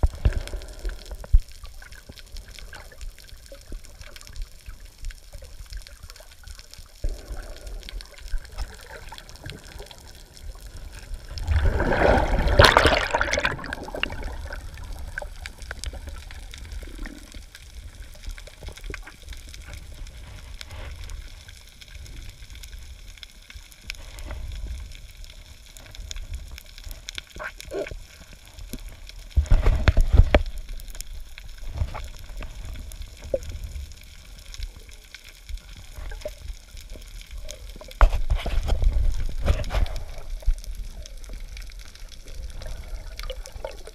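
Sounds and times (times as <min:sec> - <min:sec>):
surges of moving water: 0:00.0 - 0:23.0, 0:23.8 - 0:43.9
underwater wash of water: 0:00.0 - 0:43.9.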